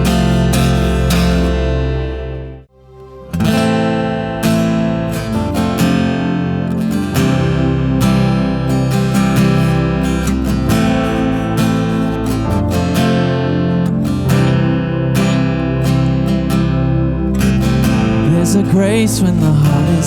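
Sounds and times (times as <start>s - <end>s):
strummed acoustic guitar: 0.0s - 2.7s, 3.3s - 20.0s.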